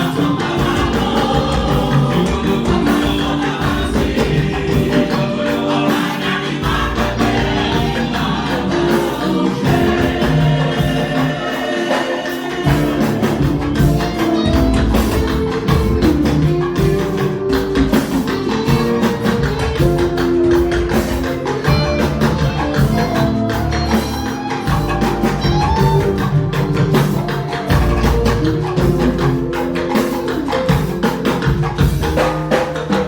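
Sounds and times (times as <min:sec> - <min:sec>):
busy percussion beat: 0:00.0 - 0:33.0
church band music: 0:00.0 - 0:33.0.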